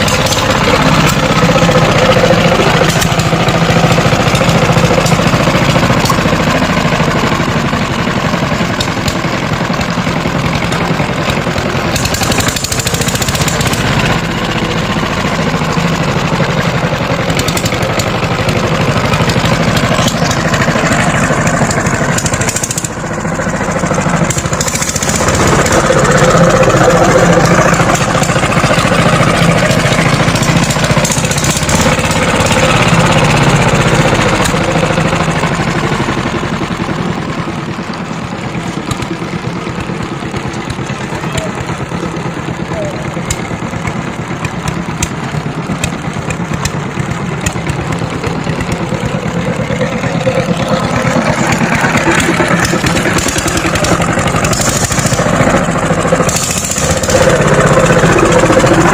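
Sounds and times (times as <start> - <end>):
power tiller engine knocking: 0.0 - 58.9.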